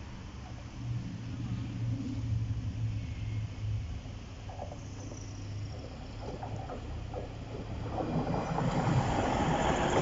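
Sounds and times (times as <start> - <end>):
diesel train rumble: 0.0 - 10.0
rail noise: 0.0 - 10.0.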